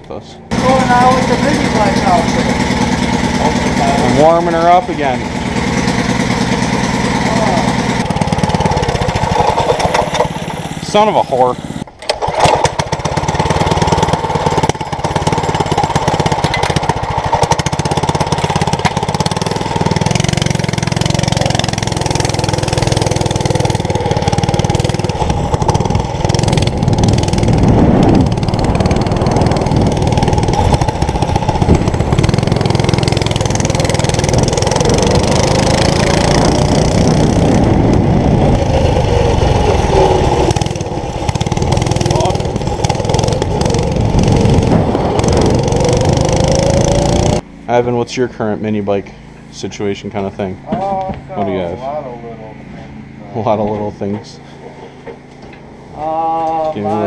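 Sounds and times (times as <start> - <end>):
mini bike engine running: 0.5 - 57.0.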